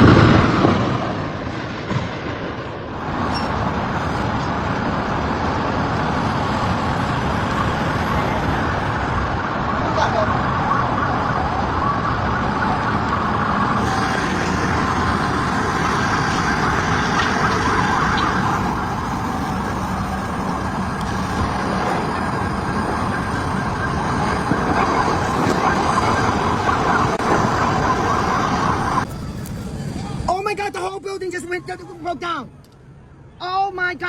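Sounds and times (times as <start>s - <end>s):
emergency vehicle sirens wailing: 0.0s - 34.0s
heavy street noise: 0.0s - 34.0s.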